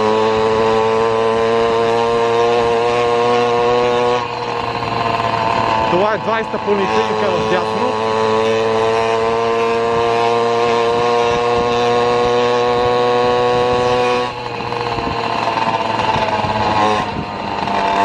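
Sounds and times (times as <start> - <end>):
rough road noise: 0.0 - 18.0
vehicle engine running: 0.0 - 18.0.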